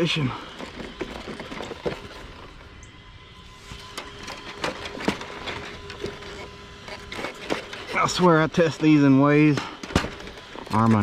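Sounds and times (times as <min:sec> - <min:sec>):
electric motor whine: 0:00.0 - 0:11.0.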